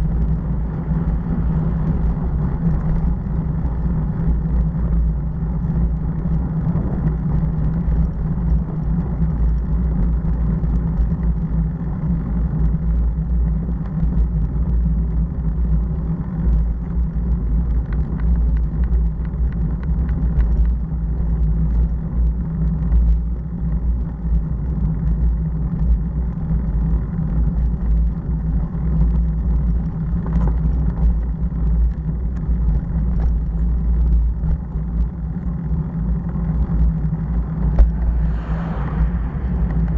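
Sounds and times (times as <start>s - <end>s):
motorcycle engine rumble: 0.0s - 39.9s
wind noise: 0.0s - 39.9s.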